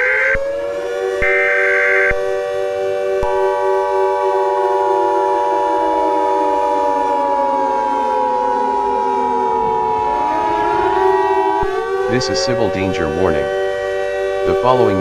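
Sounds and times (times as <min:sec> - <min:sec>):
warning sirens: 0:00.0 - 0:15.0.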